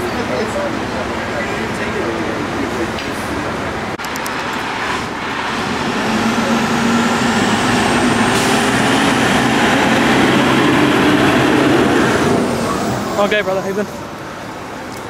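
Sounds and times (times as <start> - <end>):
truck diesel engine passing: 0.2 - 14.8.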